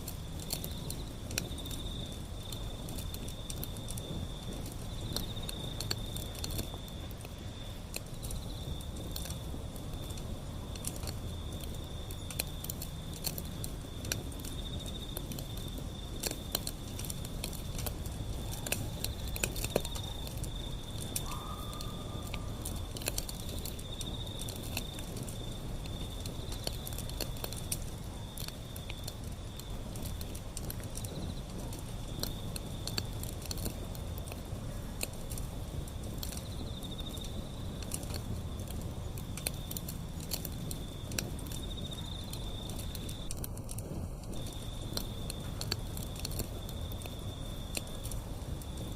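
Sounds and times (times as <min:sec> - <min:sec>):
low rumble of flames: 0:00.0 - 0:48.9
wood fire crackling and popping: 0:00.0 - 0:48.9.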